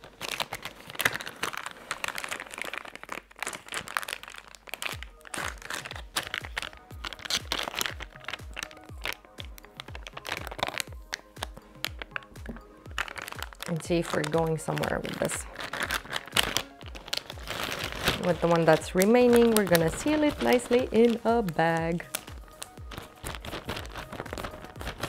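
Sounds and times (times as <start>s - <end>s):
plastic bag crinkling: 0.0s - 25.0s
background music with low beat: 4.9s - 25.0s.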